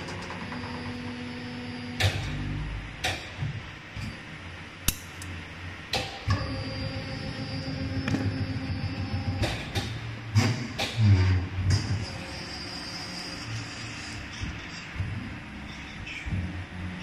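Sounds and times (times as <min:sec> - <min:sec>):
injection molding machine hum: 0:00.0 - 0:17.0.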